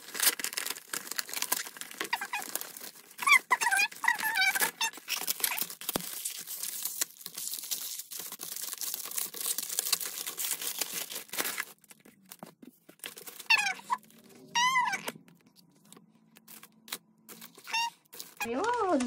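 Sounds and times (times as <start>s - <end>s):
paper envelope tearing: 0.0s - 19.0s
plastic bag crinkling: 0.0s - 19.0s.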